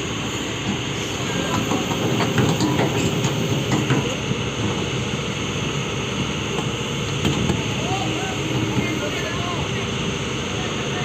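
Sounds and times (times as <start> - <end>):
excavator running: 0.0 - 11.0
steel tracks clanking: 0.0 - 11.0.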